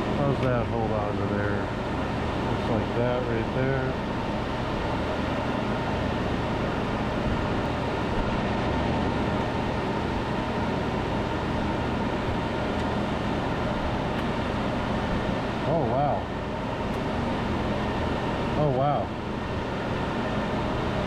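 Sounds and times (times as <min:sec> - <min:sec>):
low machine hum: 0:00.0 - 0:21.0
whirring fan: 0:00.0 - 0:21.0.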